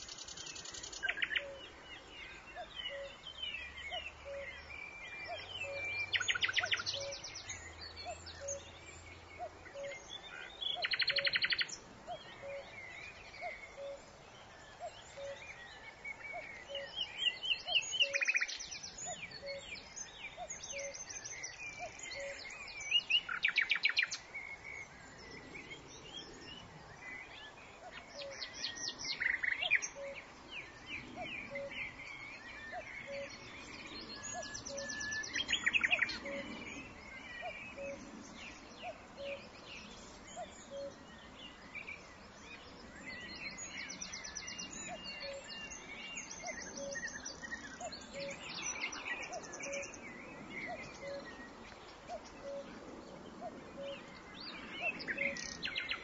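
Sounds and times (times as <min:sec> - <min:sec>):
nightingale singing: 0:00.0 - 0:52.8, 0:53.4 - 0:56.0.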